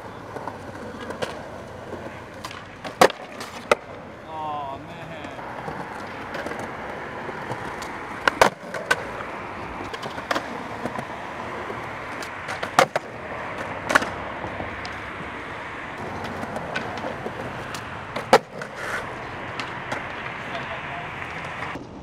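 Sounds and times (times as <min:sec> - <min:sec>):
skateboard clacking on ground: 0:00.0 - 0:22.0
skateboard wheels rolling on concrete: 0:00.0 - 0:22.0.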